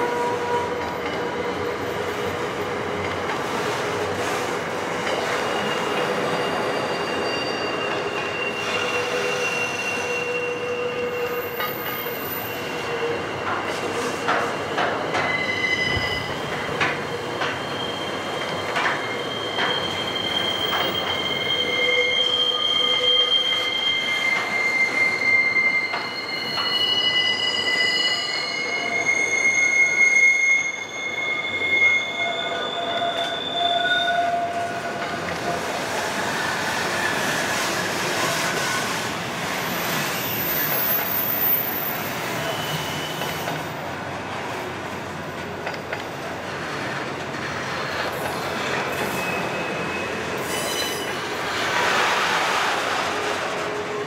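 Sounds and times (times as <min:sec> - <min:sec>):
train wheels squealing: 0:03.4 - 0:44.6, 0:45.6 - 0:54.0.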